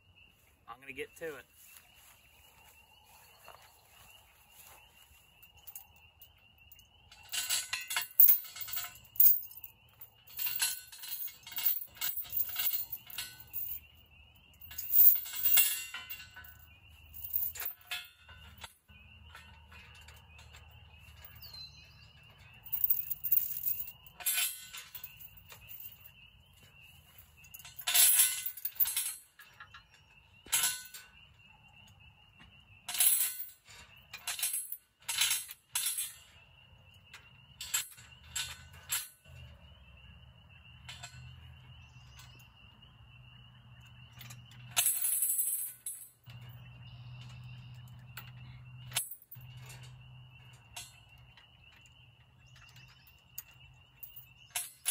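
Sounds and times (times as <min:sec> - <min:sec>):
metal tools clanking and rattling: 0:04.5 - 0:39.8, 0:40.7 - 0:42.8, 0:43.6 - 0:54.9.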